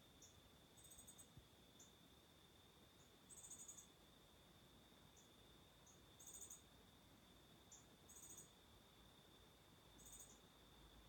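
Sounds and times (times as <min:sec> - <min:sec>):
insect chirp trills: 0:00.0 - 0:11.0.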